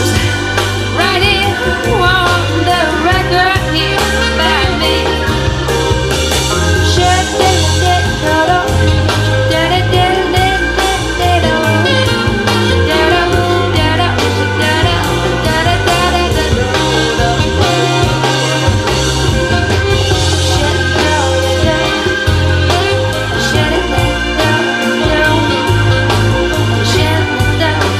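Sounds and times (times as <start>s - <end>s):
music over loudspeakers: 0.0s - 27.9s.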